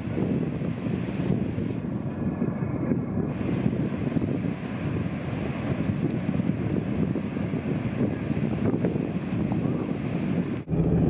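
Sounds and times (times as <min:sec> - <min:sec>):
heavy surf breaking: 0:00.0 - 0:11.0
wind buffeting microphone: 0:00.0 - 0:11.0.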